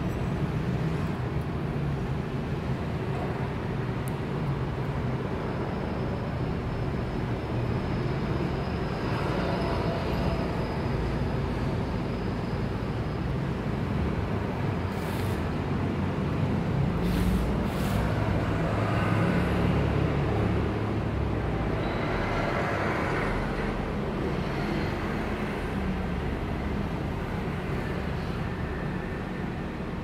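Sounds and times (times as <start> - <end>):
low rumble of road traffic: 0.0 - 30.0.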